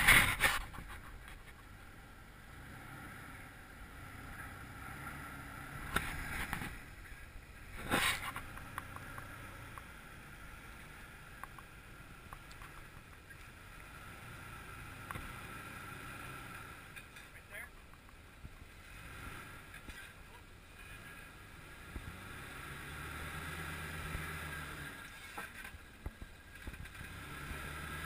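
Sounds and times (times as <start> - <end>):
engine rumbling at low revs: 0.0 - 28.0.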